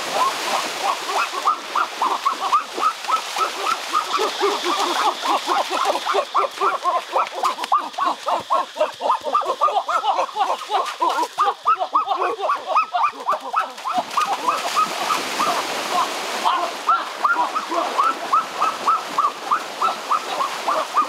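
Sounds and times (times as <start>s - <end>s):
splashing through shallow water: 0.0s - 21.0s.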